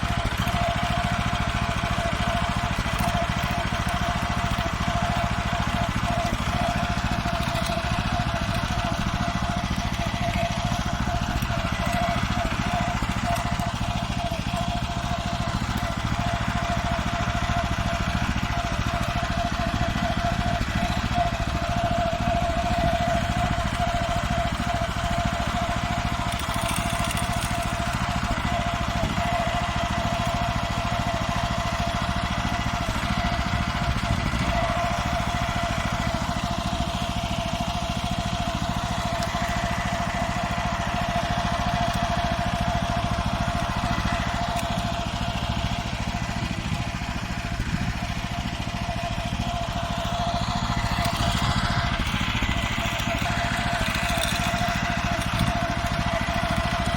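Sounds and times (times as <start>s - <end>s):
tractor engine running with whine: 0.0s - 56.9s.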